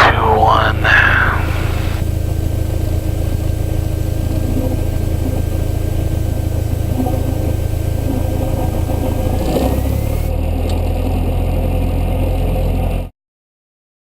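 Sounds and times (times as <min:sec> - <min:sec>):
airplane engine droning: 0:00.0 - 0:13.0.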